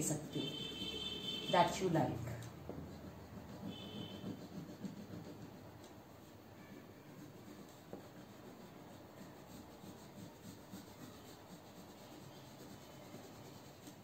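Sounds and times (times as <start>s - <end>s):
pencil shading on paper: 2.4s - 14.0s.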